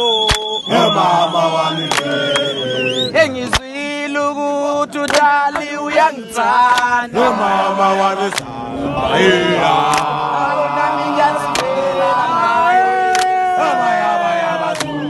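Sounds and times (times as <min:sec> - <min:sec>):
men chanting in unison: 0:00.5 - 0:15.0.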